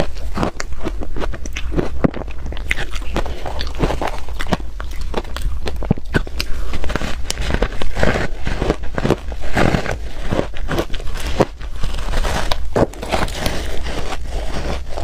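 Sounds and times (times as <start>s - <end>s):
crushed ice being chewed: 0.0s - 15.0s.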